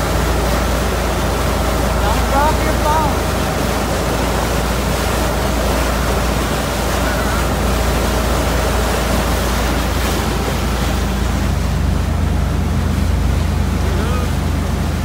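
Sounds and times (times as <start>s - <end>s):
constant low rumble: 0.0s - 15.0s
water churning along boat hull: 0.0s - 15.0s.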